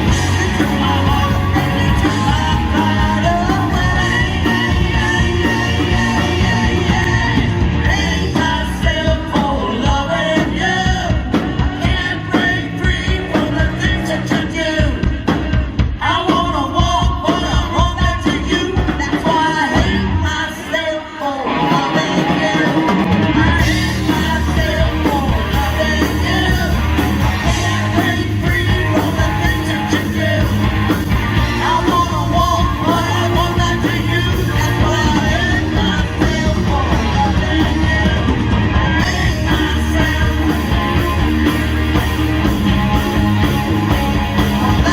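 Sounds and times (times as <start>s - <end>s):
person singing: 0.0s - 30.7s, 31.4s - 41.2s, 44.3s - 44.9s
live rock band playing: 0.0s - 44.9s.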